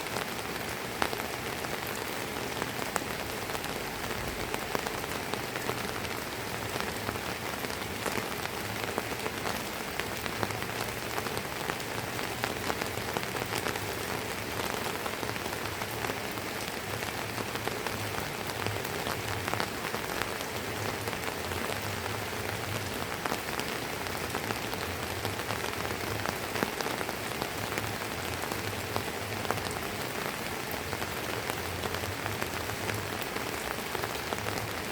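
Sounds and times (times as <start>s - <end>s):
light rain hiss: 0.0s - 34.9s
raindrops tapping close by: 0.1s - 34.9s.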